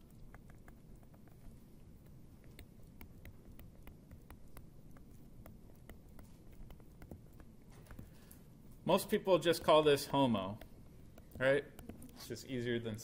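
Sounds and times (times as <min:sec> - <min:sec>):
low room hum: 0:00.0 - 0:13.0
stylus tapping on tablet screen: 0:00.2 - 0:08.3, 0:09.4 - 0:12.2.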